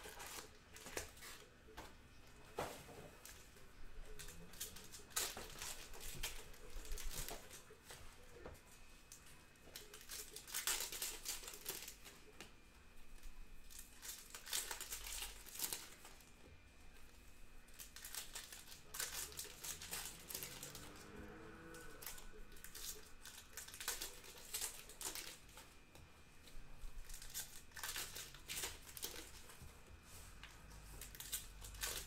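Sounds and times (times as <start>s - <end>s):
wrappers and cards crinkling: 0.0s - 1.9s, 2.6s - 32.0s.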